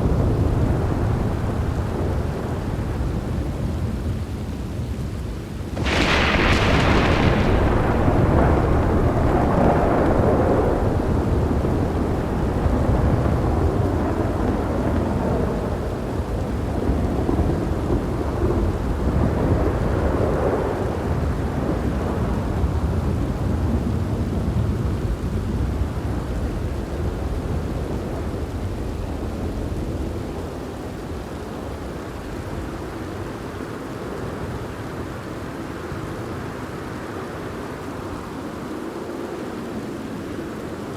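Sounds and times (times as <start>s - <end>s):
thunder cracking and rumbling: 0.0s - 36.4s
steady rain falling: 0.0s - 40.9s.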